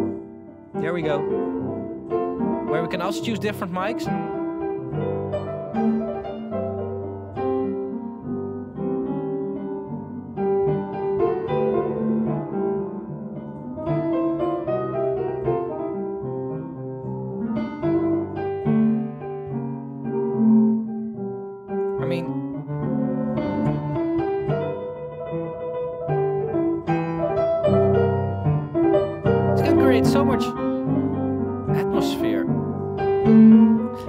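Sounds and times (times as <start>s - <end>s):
piano playing sustained chords: 0.0s - 34.0s.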